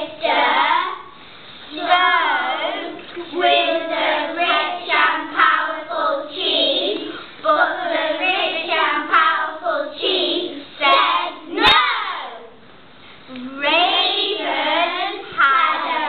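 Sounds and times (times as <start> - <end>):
young children singing in unison: 0.0 - 12.6, 13.6 - 16.0.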